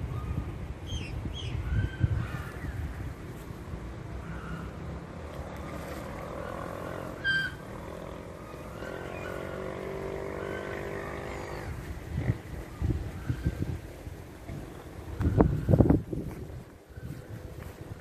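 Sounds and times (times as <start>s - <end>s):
low engine drone: 2.2s - 18.0s.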